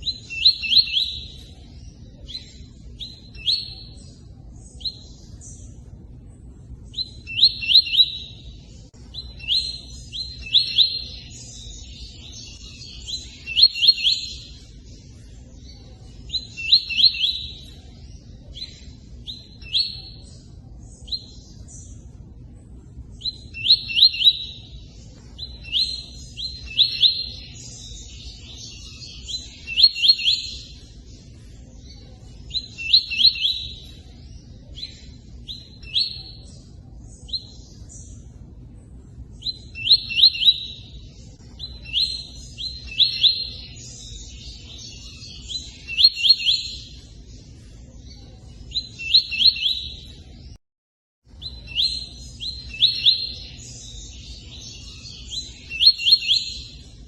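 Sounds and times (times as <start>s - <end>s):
songbird whistled song: 0.0s - 50.6s, 51.3s - 57.0s.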